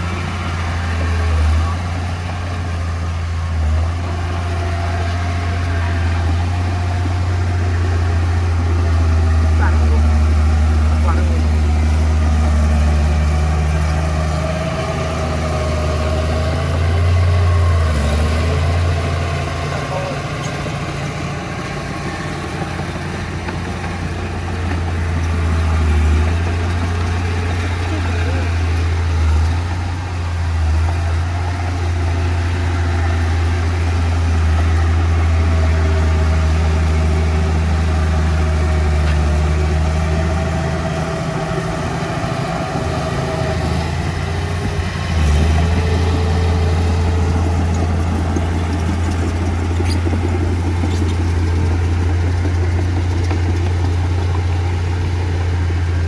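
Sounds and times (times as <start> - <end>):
diesel engine surging: 0.0 - 56.0.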